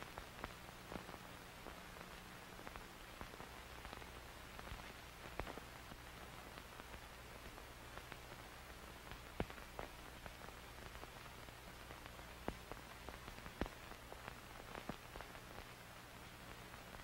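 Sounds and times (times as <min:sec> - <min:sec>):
vinyl crackles and pops: 0:00.0 - 0:17.0
vinyl record hiss and hum: 0:00.0 - 0:17.0.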